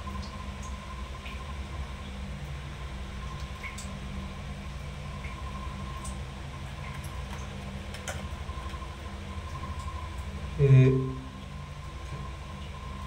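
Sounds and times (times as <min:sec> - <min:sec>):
low mechanical hum with whine: 0:00.0 - 0:13.0.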